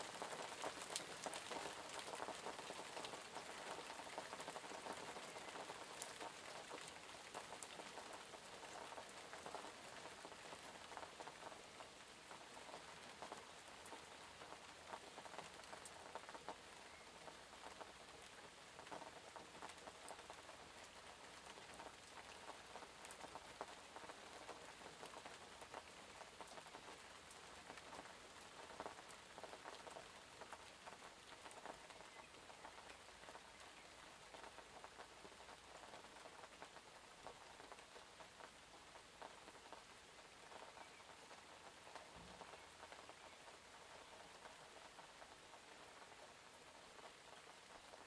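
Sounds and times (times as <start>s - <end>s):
light rain pattering: 0.0s - 48.0s
raindrop ticks: 0.0s - 48.0s.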